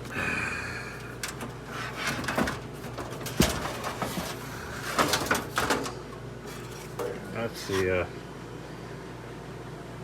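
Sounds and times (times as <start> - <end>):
air conditioner humming: 0.0 - 10.0.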